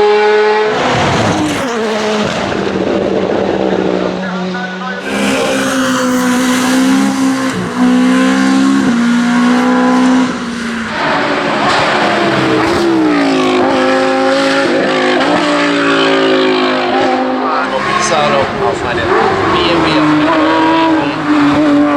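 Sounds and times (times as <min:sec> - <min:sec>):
racing car engine at high revs: 0:00.0 - 0:21.9.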